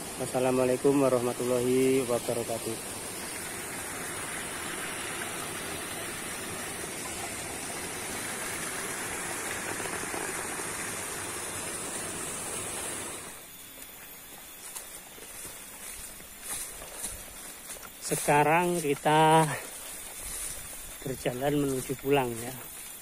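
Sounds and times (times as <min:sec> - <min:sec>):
small stream running: 0:00.0 - 0:23.0.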